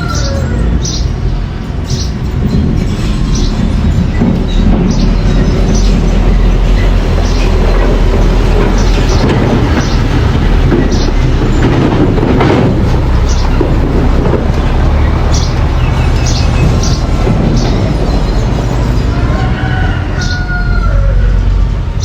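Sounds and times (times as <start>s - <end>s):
bulldozer engine drone: 0.0s - 22.0s
steel tracks squeaking: 0.0s - 22.0s.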